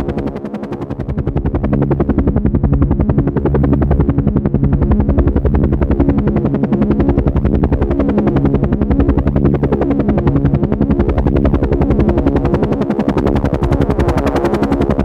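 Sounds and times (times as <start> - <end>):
helicopter engine hum: 0.0 - 15.0
helicopter rotor blades chopping: 0.0 - 15.0.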